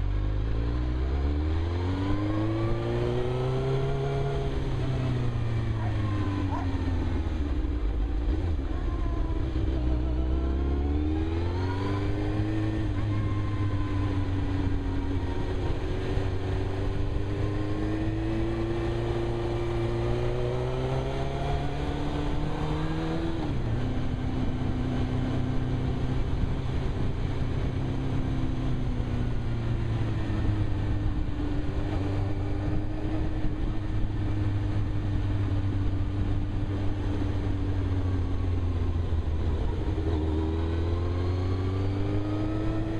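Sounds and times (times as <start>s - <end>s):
low wind rumble: 0.0s - 42.9s
motorcycle engine accelerating: 0.0s - 42.9s.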